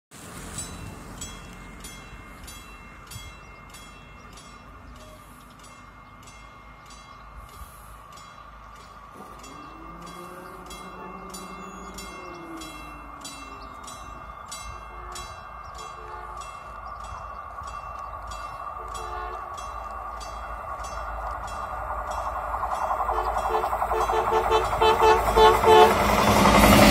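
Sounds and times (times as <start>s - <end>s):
low rumble of approaching train: 0.1s - 26.9s
level-crossing warning bell ringing: 0.4s - 26.9s.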